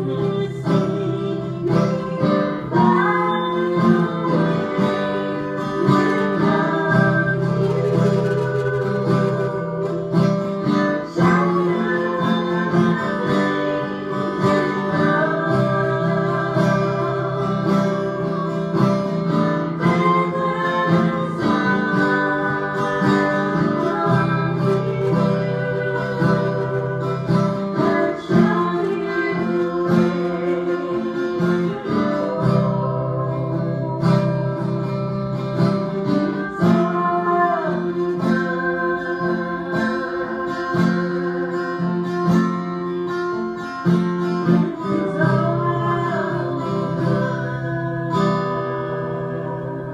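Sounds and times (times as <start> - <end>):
acoustic guitar strumming: 0.0 - 49.9
women singing: 0.0 - 49.9.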